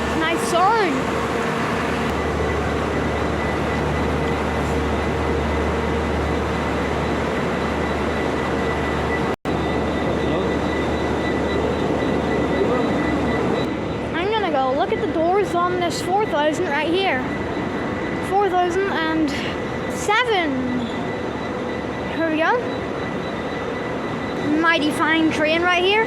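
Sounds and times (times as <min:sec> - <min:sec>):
diesel train engine humming: 0:00.0 - 0:26.0
faint constant whine: 0:00.0 - 0:26.0.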